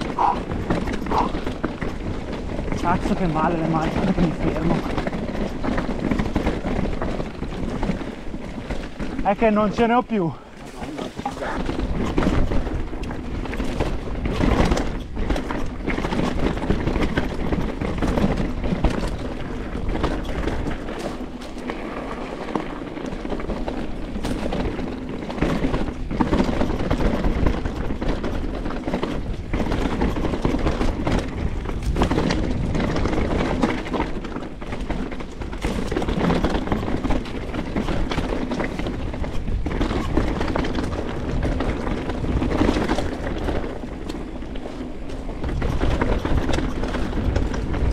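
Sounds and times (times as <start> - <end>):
bike clattering over rocks: 0.0 - 47.9
tyre and wind rush: 0.0 - 47.9.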